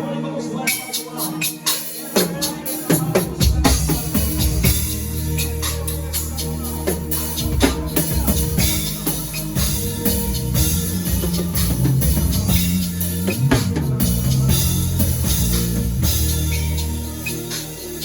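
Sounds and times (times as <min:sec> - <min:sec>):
drum kit strikes and fills: 0:01.6 - 0:18.0
bass and keyboard tones: 0:02.3 - 0:18.0.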